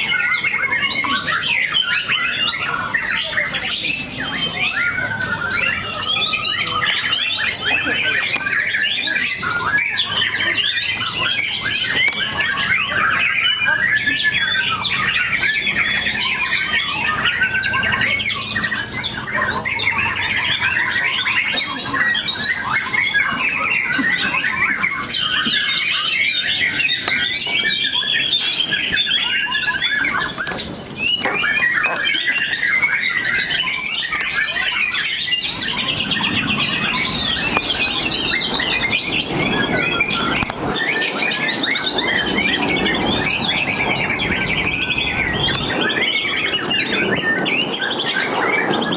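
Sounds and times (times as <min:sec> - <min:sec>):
birds singing whistled trills: 0:00.0 - 0:48.9.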